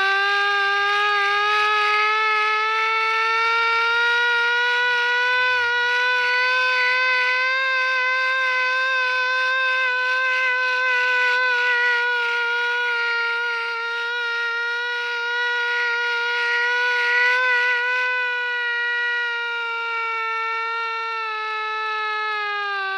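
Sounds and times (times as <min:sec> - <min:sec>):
air raid siren wailing: 0:00.0 - 0:22.9.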